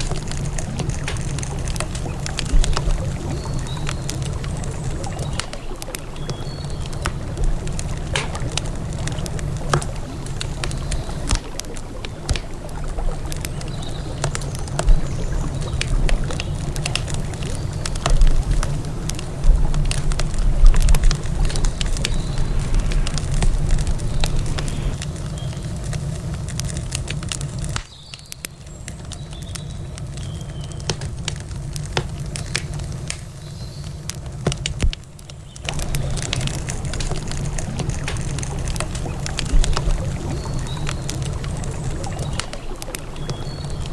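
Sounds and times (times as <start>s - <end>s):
campfire crackling: 0.0s - 43.9s.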